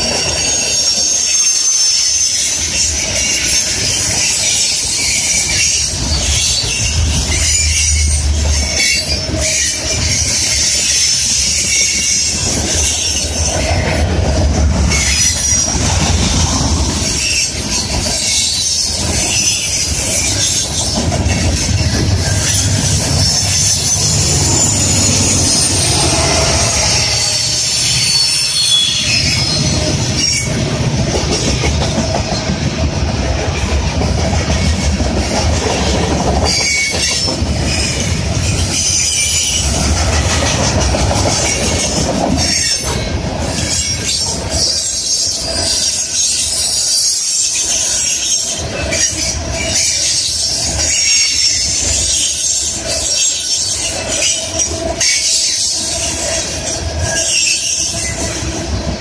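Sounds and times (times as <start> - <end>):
freight train rolling past: 0.0 - 59.0
steel wheels squealing: 0.0 - 59.0.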